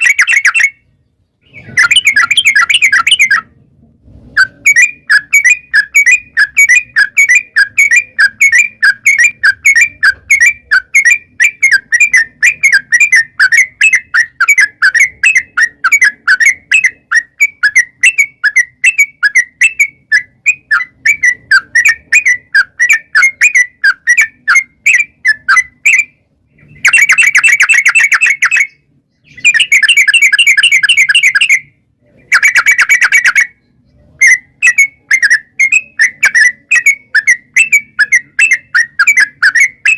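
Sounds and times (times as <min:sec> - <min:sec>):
bulbul chirping song: 0:00.0 - 0:03.7, 0:04.3 - 0:39.9.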